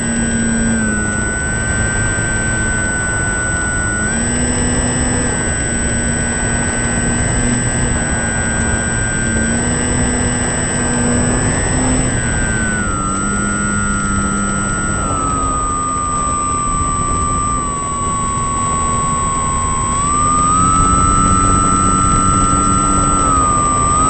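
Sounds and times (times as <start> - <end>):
continuous rushing noise: 0.0 - 24.0
engine whining under load: 0.0 - 24.0.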